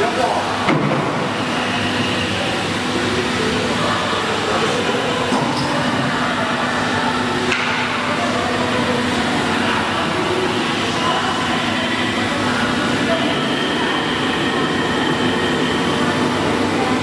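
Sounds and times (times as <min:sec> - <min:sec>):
cnc router humming and whirring: 0:00.0 - 0:17.0.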